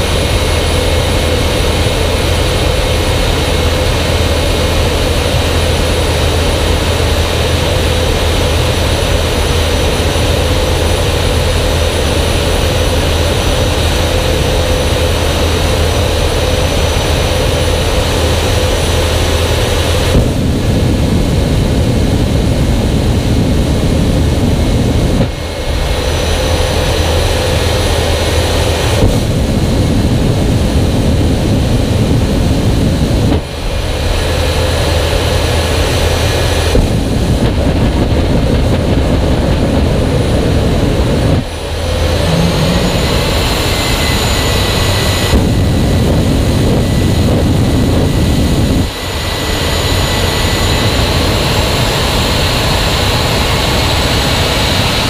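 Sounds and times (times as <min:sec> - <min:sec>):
jet engine running: 0:00.0 - 0:55.0.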